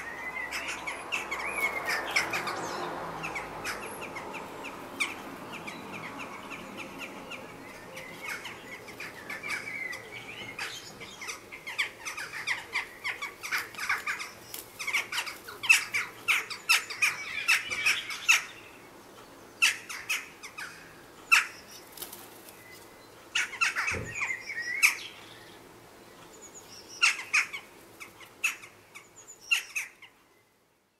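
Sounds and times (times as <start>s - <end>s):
jackdaws calling: 0.0s - 30.2s.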